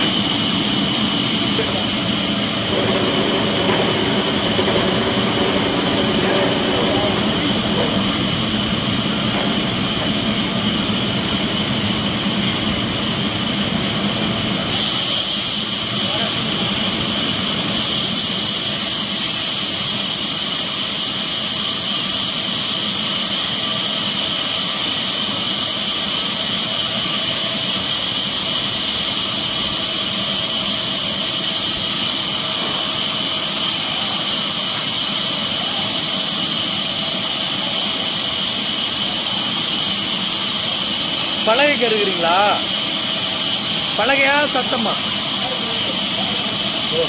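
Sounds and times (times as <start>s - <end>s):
band sawmill running: 0.0s - 47.0s.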